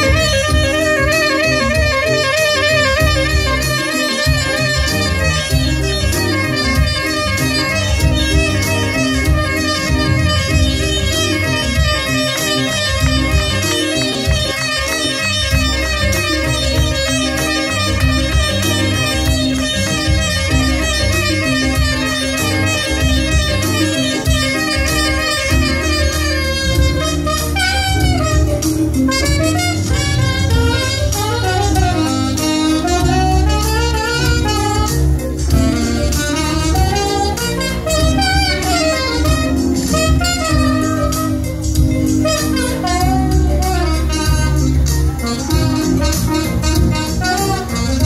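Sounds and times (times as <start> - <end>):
saxophone playing: 0.0 - 48.0
smooth jazz backing track: 0.0 - 48.0.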